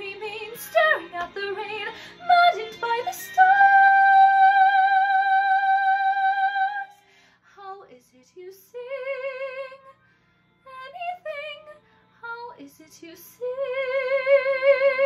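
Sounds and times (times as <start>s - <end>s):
woman singing with vibrato: 0.0s - 7.0s, 7.6s - 10.0s, 10.7s - 15.0s.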